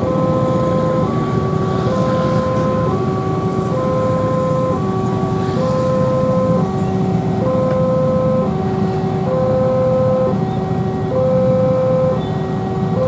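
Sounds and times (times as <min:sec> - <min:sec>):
level crossing two-tone alarm: 0:00.0 - 0:06.8, 0:07.4 - 0:13.0
road traffic: 0:00.0 - 0:13.0.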